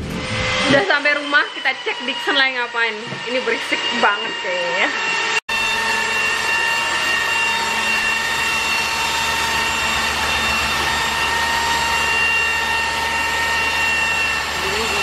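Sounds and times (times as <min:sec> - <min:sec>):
machine motor high whine: 0:00.0 - 0:15.0.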